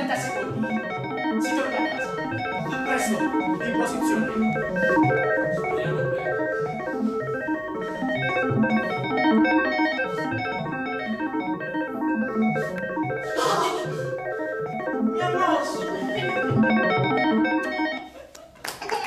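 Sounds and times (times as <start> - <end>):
busy music with quick notes: 0.0 - 18.2.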